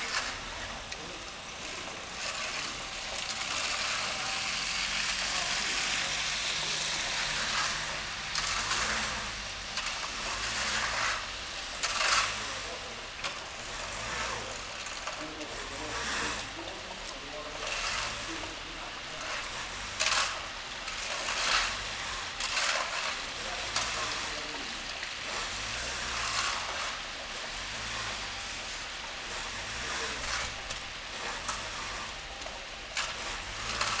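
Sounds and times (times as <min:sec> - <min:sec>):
van engine humming: 0:00.0 - 0:34.0.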